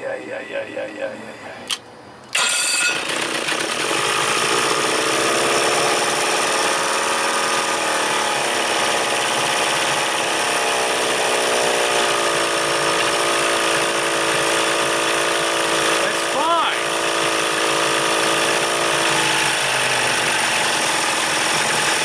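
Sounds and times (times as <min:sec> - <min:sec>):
outboard motor running: 0:02.3 - 0:22.0.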